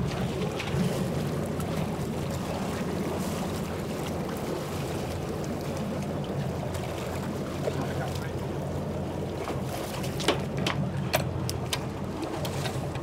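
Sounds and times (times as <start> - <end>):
water splashing against hull: 0.0 - 13.0.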